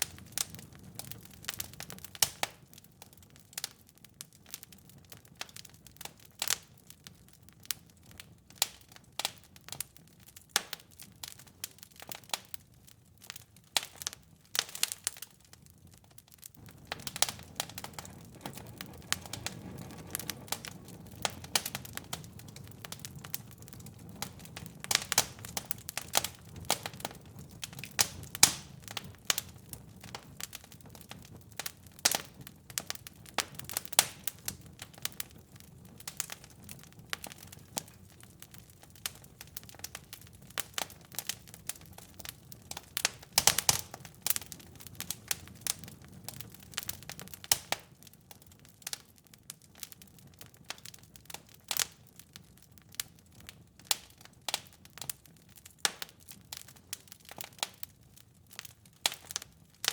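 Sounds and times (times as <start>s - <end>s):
low rumble of burning: 0.0s - 59.9s
wood fire crackling: 0.0s - 59.9s.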